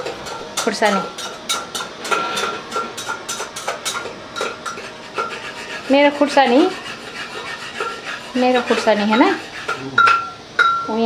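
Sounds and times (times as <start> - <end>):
metal utensil scraping frying pan: 0.1 - 10.8.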